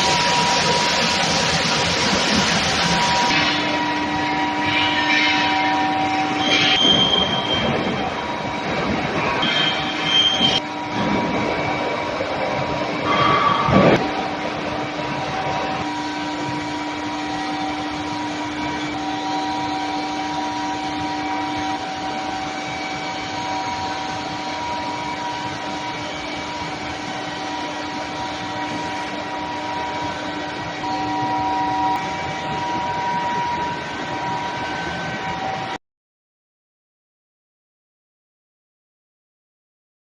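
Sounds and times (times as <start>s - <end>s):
loud screech: 0.0s - 11.8s, 12.9s - 14.0s, 15.5s - 35.8s
industrial machine hum: 0.0s - 35.8s.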